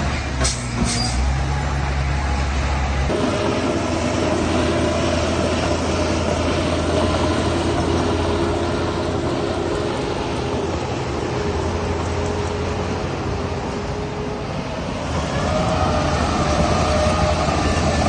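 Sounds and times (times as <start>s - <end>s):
heavy machinery diesel engine running: 0.0s - 18.0s.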